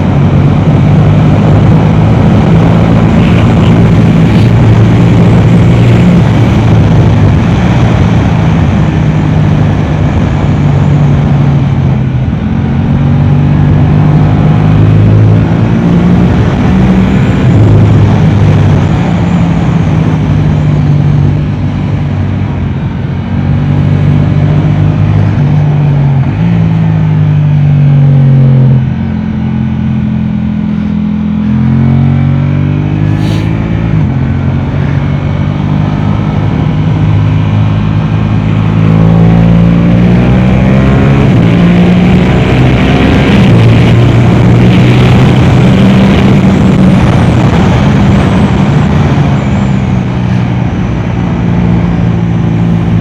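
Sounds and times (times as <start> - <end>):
motorcycle engine revving through gears: 0.0 - 53.0.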